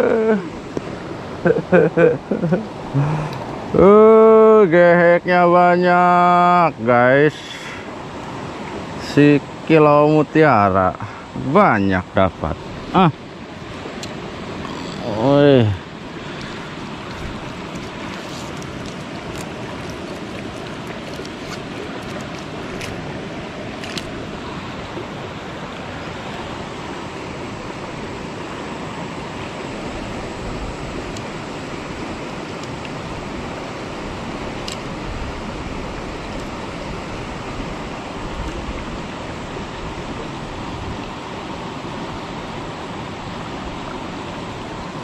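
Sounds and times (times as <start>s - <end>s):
river rushing: 0.0s - 45.0s.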